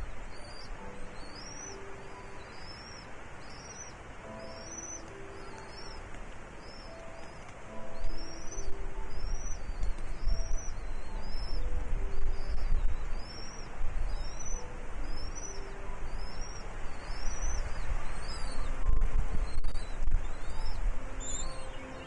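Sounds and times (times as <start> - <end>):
bird whistled call: 0.0 - 6.0, 6.6 - 22.0
low wind rumble: 0.0 - 22.0.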